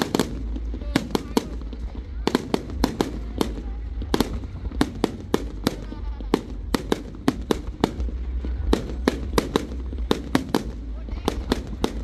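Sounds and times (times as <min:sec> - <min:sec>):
fireworks sharp bangs: 0:00.0 - 0:12.0
low rumble: 0:00.0 - 0:12.0.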